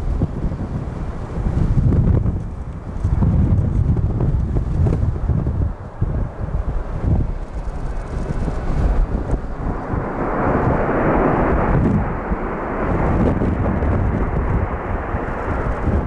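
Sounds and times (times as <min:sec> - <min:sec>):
jet engine noise: 0:00.0 - 0:16.0
wind buffeting microphone: 0:00.0 - 0:16.0.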